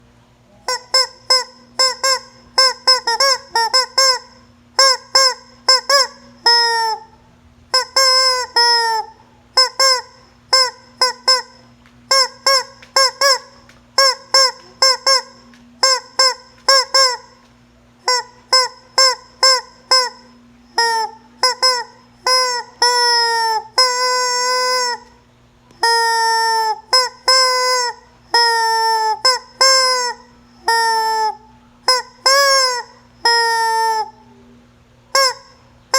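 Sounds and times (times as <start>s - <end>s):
rubber chicken squeaky toy squawks: 0.6s - 17.4s, 18.0s - 25.2s, 25.8s - 34.3s, 35.1s - 35.6s.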